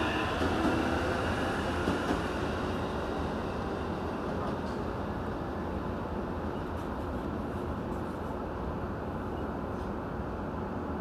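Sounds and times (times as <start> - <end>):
low hum inside train car: 0.0 - 11.0.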